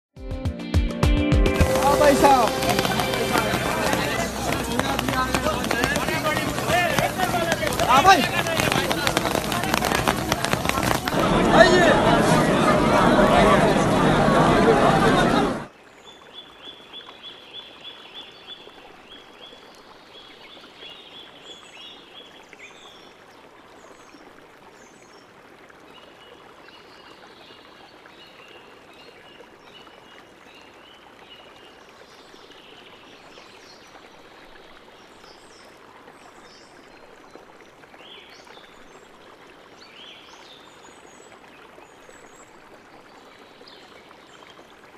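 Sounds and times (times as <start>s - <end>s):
rushing water: 1.4s - 44.9s.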